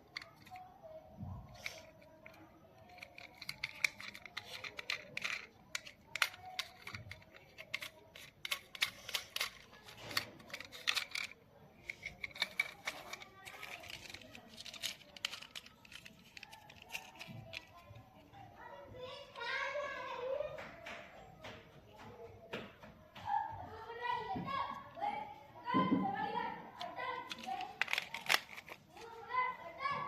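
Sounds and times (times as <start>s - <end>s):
toy cars clicking and tapping: 0.0s - 22.8s, 25.7s - 29.6s.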